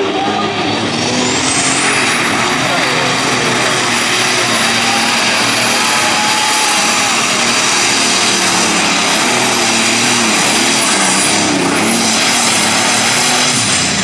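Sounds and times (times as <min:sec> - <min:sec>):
diesel engine at full load: 0:00.0 - 0:14.0.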